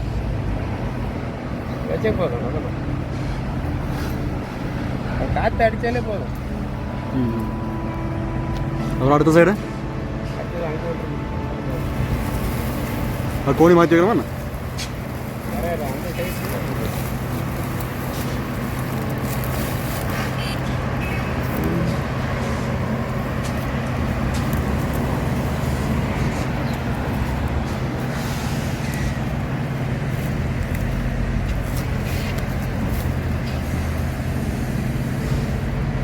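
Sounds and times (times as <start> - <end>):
engine running steadily: 0.0 - 36.0.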